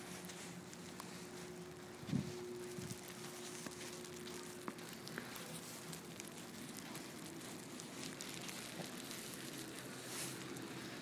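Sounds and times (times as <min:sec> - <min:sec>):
ice grains ticking: 0:00.0 - 0:11.0.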